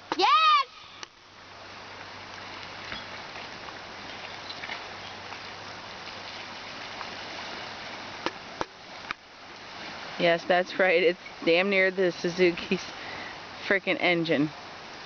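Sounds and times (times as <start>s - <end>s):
creek water rushing and splashing: 0.0s - 15.0s.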